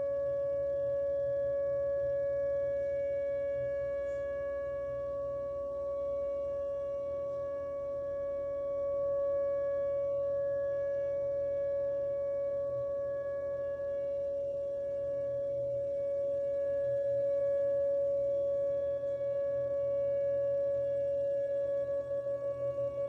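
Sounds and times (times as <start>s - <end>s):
warning siren steady tone: 0.0s - 23.0s.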